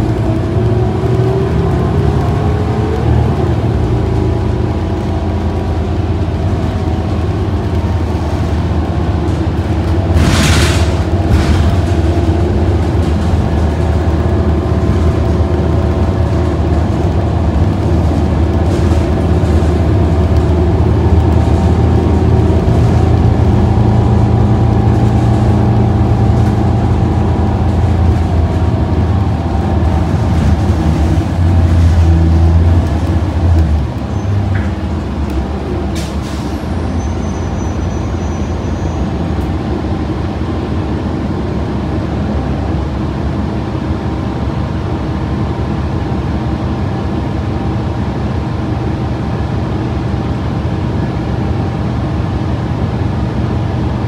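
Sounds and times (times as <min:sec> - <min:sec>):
diesel bus engine drone: 0:00.0 - 0:54.0
road noise: 0:00.0 - 0:54.0.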